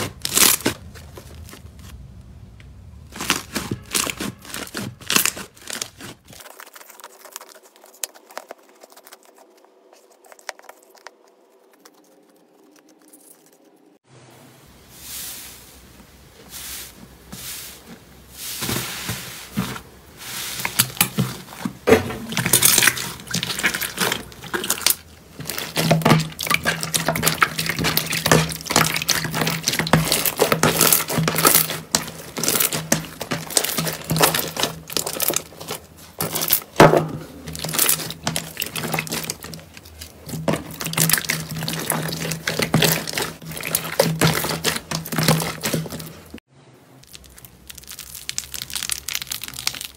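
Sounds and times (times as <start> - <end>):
slime squished by hand: 0.0 - 2.0, 3.0 - 13.0, 20.6 - 46.4, 47.0 - 49.9.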